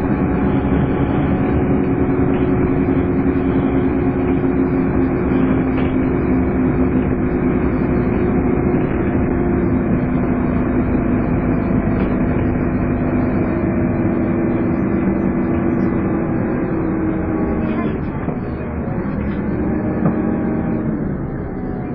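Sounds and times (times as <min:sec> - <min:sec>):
bus engine humming: 0:00.0 - 0:21.9.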